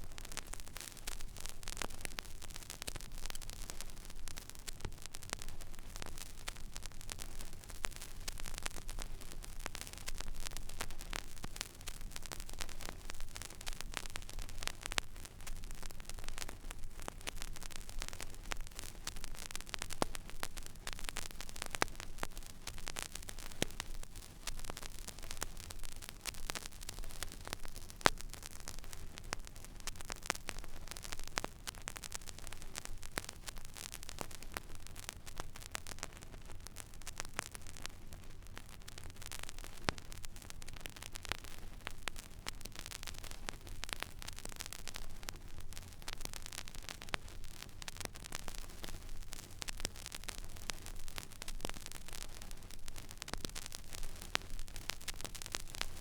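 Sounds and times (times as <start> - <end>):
vinyl surface hiss and crackles: 0.0 - 56.0.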